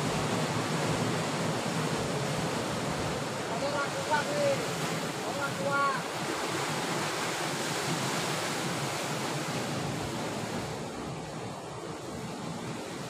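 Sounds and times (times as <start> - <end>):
surf washing on rocks: 0.0 - 13.0.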